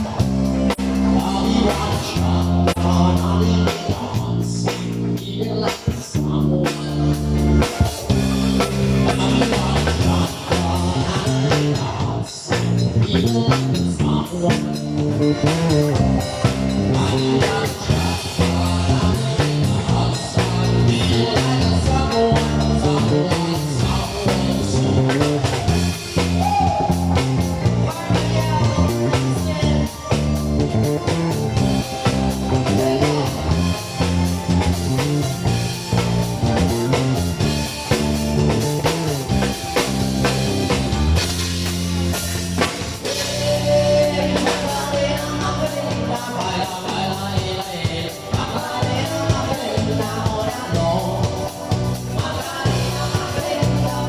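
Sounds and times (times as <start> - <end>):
band playing rock-style pop: 0.0 - 54.0
drum kit: 0.0 - 54.0
guitar: 0.0 - 54.0.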